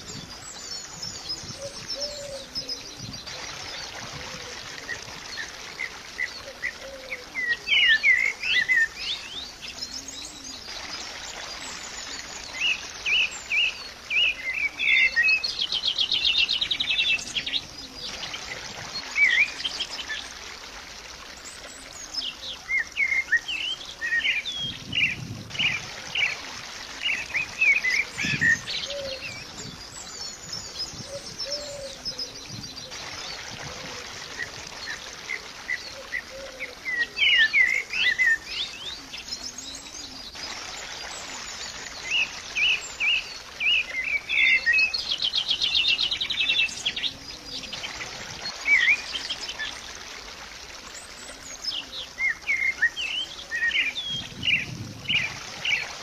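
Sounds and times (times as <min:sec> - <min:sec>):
birds chirping and singing: 0:00.0 - 0:20.2, 0:21.4 - 0:49.8, 0:51.0 - 0:56.0.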